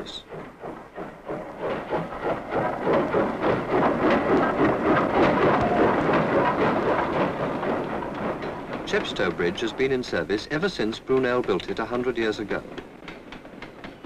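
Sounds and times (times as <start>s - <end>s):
train wheels clattering on bridge: 0.0s - 14.0s.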